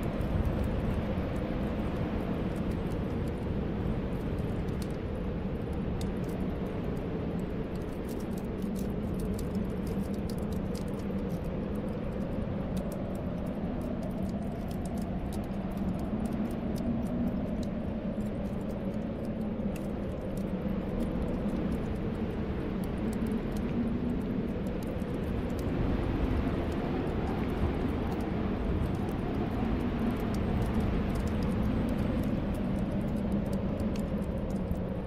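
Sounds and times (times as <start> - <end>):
wind whistling: 0.0 - 35.0
wood fire crackling: 0.0 - 35.0.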